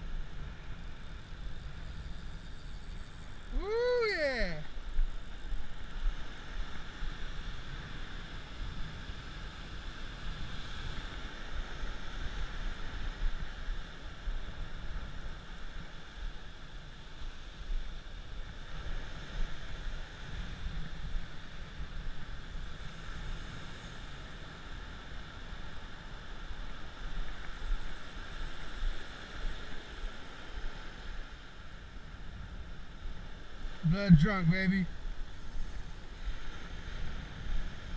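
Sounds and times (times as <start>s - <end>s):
ocean surf washing up beach: 0.0s - 37.9s
wind rumbling on microphone: 0.0s - 37.9s.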